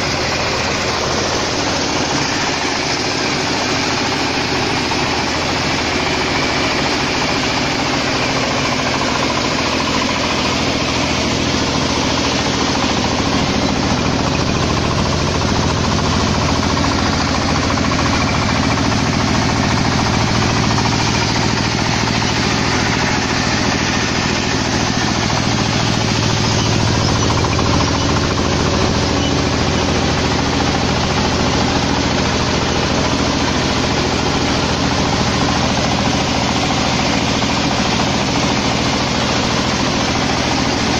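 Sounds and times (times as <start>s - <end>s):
harvester engine droning: 0.0s - 40.9s.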